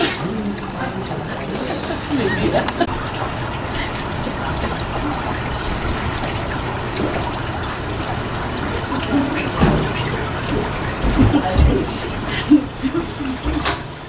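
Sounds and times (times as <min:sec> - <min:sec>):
water trickling in fountain: 0:00.3 - 0:14.0.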